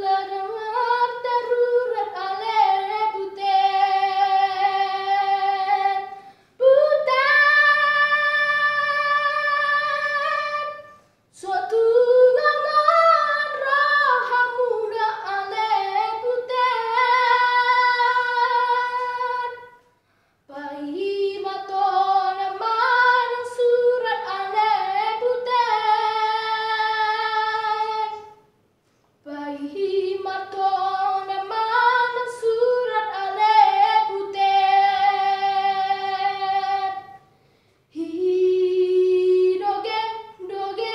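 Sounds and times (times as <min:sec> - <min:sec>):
boy singing unaccompanied: 0:00.0 - 0:19.8, 0:20.5 - 0:28.4, 0:29.3 - 0:37.2.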